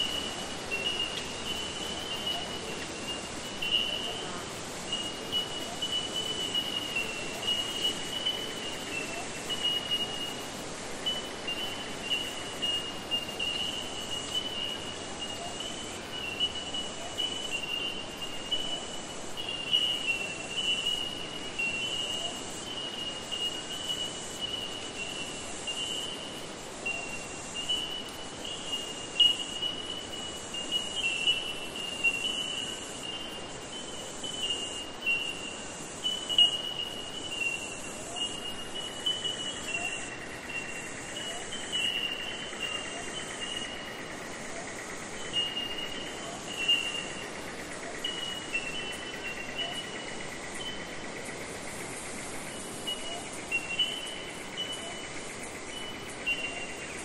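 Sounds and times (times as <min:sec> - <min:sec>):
pulsing high hiss: 0:00.0 - 0:57.0.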